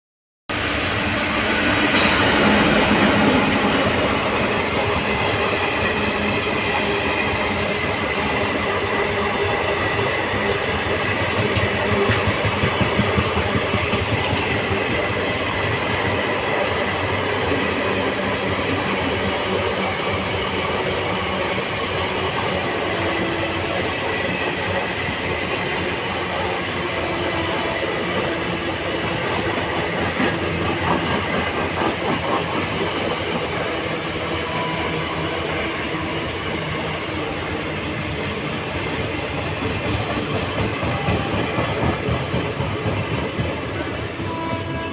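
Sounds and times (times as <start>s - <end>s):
train rumble and rushing: 0.5s - 44.9s.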